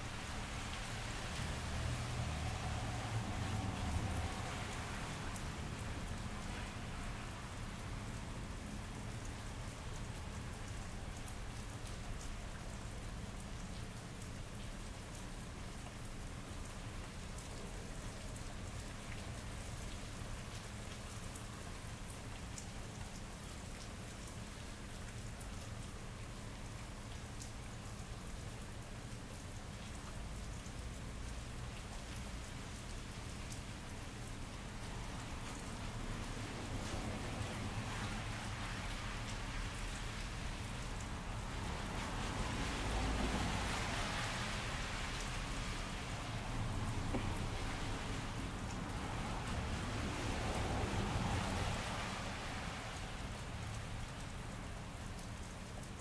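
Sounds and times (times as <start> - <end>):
rain on pavement: 0.0 - 56.0.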